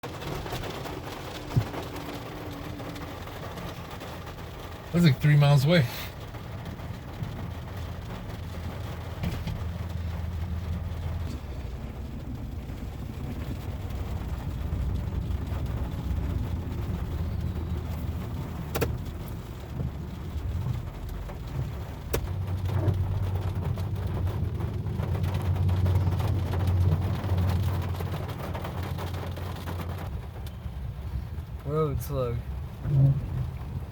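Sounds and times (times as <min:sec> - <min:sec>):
locomotives rumbling: 0:00.0 - 0:33.9.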